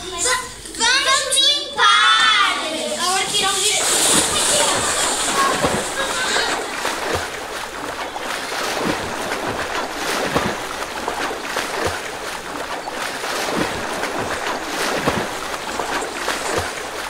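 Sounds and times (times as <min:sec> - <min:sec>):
sheet rustling and crinkling: 0:02.6 - 0:17.0
children's footsteps thumping: 0:03.0 - 0:17.0.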